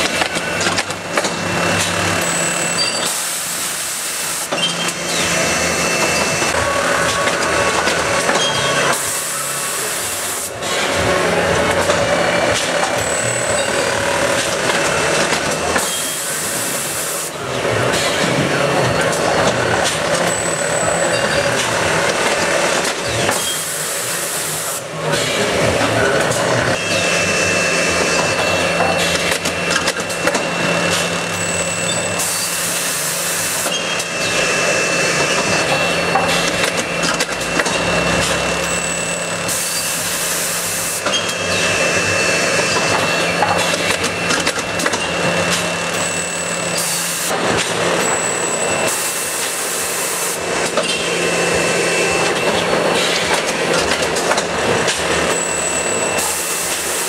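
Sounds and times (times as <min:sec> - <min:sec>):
machine clatter and hum: 0:00.0 - 0:57.0.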